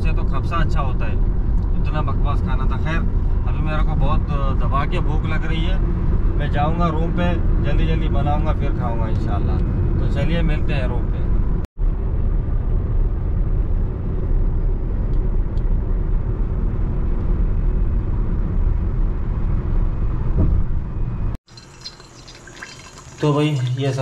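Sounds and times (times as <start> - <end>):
car cabin road rumble: 0.0 - 21.4.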